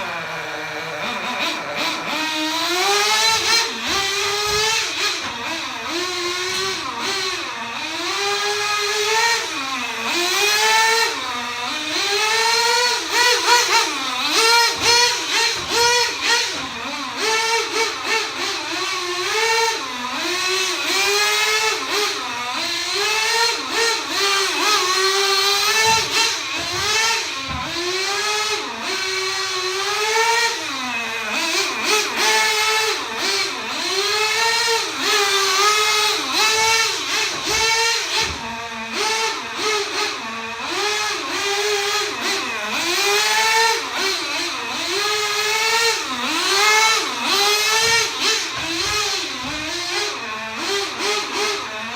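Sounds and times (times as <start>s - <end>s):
small nitro engine revving: 0.0s - 51.9s.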